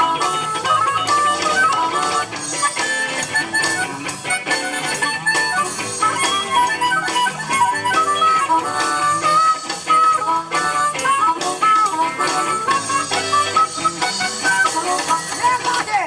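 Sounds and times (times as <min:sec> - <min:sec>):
blues harmonica: 0:00.0 - 0:16.0
electric guitar: 0:00.0 - 0:16.0
steady beat: 0:00.0 - 0:16.0.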